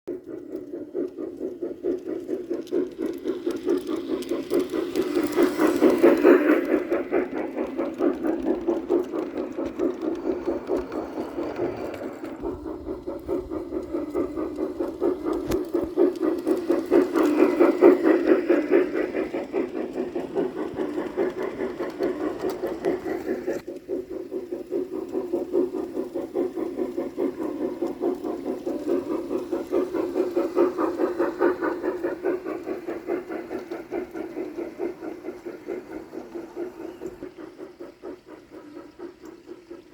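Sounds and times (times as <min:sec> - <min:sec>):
model train mechanical whir: 0:00.1 - 0:39.9
wheels clattering on track: 0:00.1 - 0:39.9.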